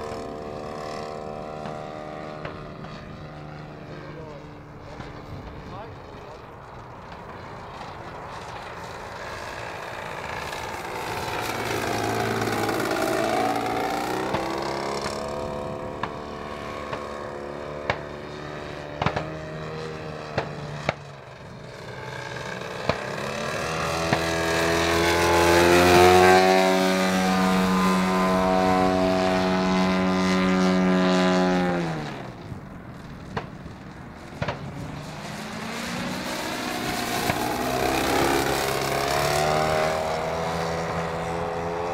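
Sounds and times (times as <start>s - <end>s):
model plane engine and propeller: 0.0s - 41.9s.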